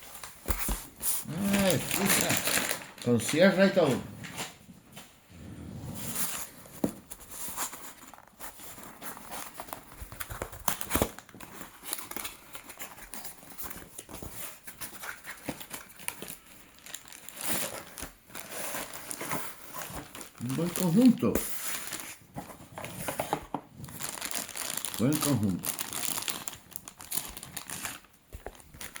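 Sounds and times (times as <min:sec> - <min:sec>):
packaging crinkling and tearing: 0:00.1 - 0:03.9, 0:06.2 - 0:29.0.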